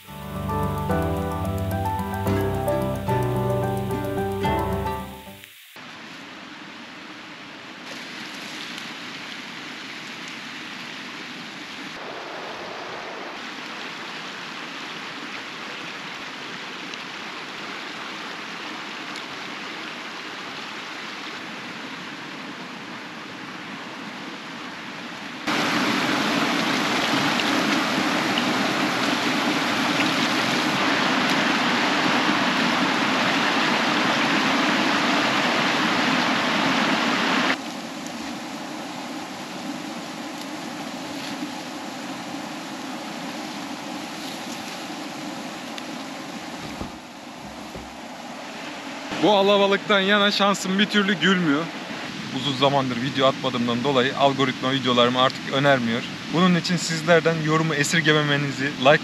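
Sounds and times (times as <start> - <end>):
stream rushing over rocks: 7.7 - 59.0.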